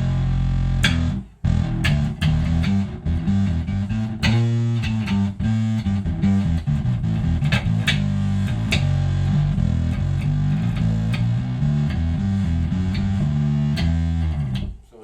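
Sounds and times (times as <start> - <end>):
fuzz electric bass riff: 0.0 - 14.8.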